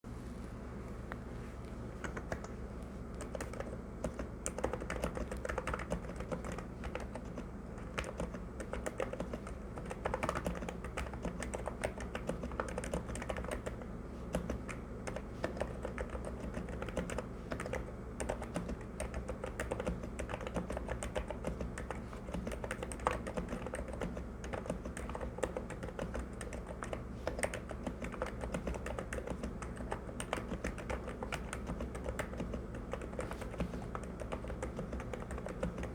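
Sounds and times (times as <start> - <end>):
fast keyboard typing: 2.0 - 35.9.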